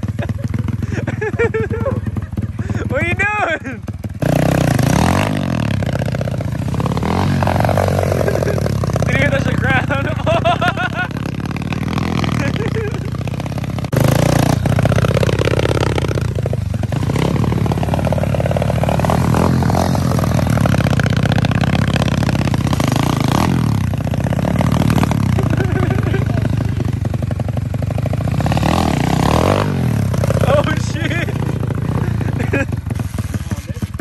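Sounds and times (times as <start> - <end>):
motorbike engine revving: 0.0 - 34.0.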